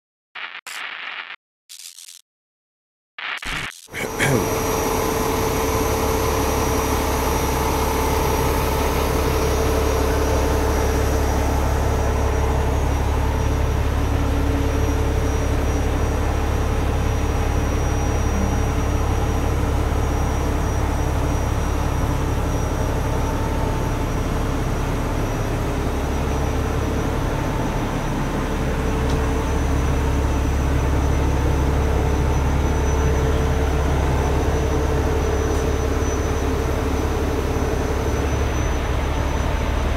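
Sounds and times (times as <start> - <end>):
truck engine idling: 4.0 - 39.9.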